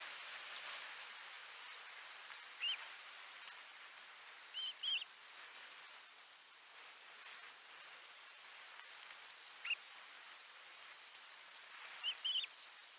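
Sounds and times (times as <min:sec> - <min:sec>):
faint steady hiss: 0:00.0 - 0:12.9.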